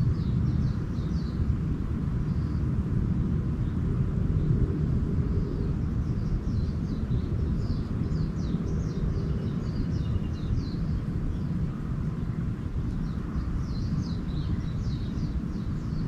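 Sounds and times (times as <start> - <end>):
small birds chirping: 0.0 - 2.8, 3.6 - 16.0
steady low rumble: 0.0 - 16.0.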